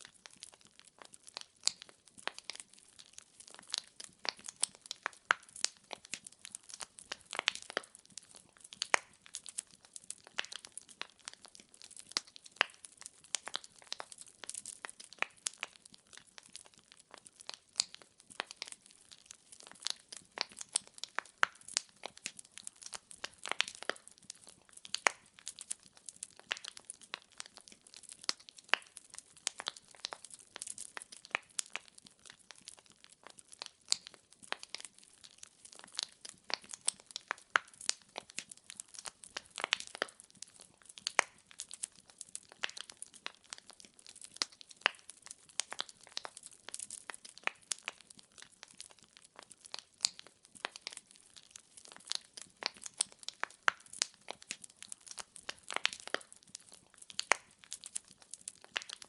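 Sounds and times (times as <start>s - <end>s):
firewood crackling: 0.0s - 59.0s.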